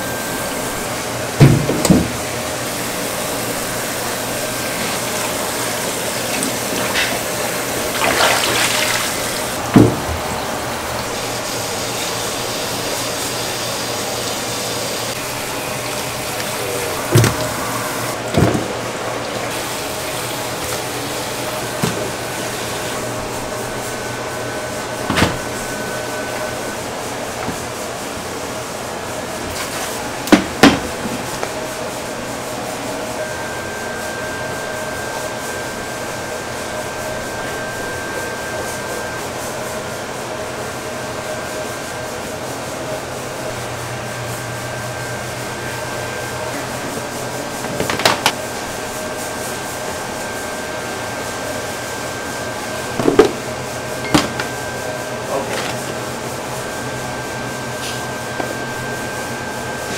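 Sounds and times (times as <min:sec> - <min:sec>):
kitchen machinery hum: 0:00.0 - 0:59.9.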